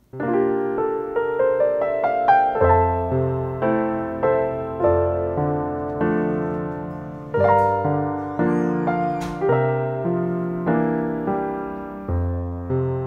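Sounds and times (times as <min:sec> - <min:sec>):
gentle piano piece: 0:00.0 - 0:13.0.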